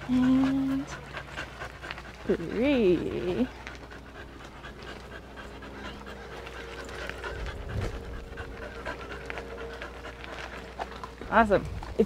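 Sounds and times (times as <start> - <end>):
dog panting: 0.0 - 12.0
light footsteps on gravel: 1.0 - 12.0.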